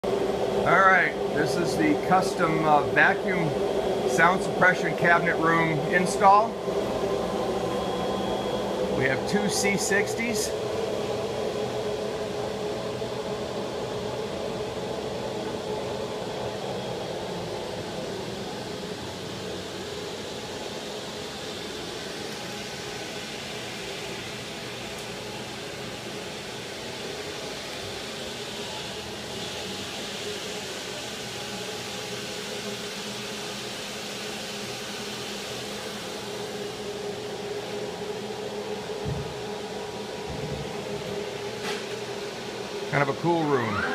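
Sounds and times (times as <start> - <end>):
machine humming with hiss: 0.0 - 43.9.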